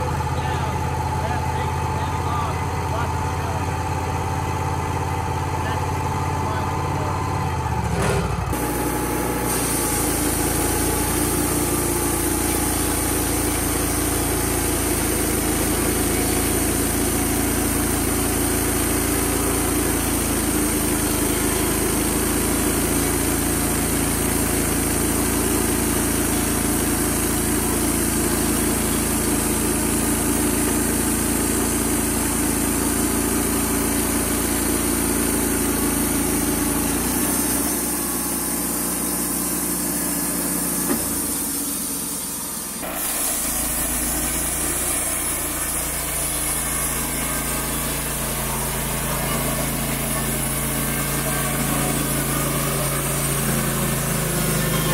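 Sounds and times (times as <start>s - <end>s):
band sawmill engine running: 0.0s - 54.9s
saw blade cutting log: 8.0s - 54.9s.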